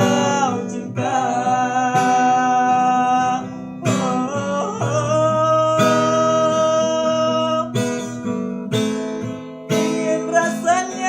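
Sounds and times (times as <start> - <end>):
person singing: 0.0 - 8.2, 9.8 - 11.0
acoustic guitar strumming: 0.0 - 11.0.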